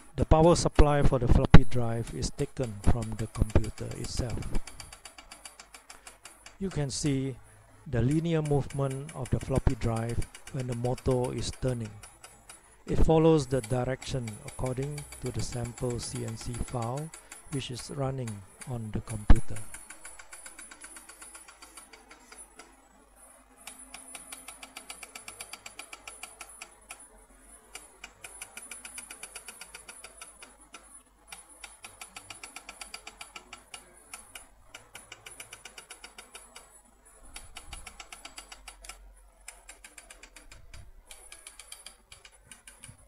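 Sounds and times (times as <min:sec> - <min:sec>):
stepper motor ticking: 0:01.6 - 0:22.8, 0:23.7 - 0:27.0, 0:27.7 - 0:36.7, 0:37.3 - 0:43.0.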